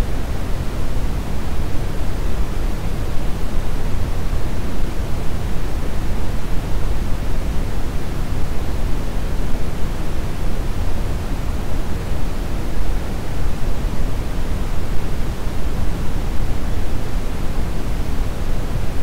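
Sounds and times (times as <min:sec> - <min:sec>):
brown noise rumbling hiss: 0:00.0 - 0:19.0.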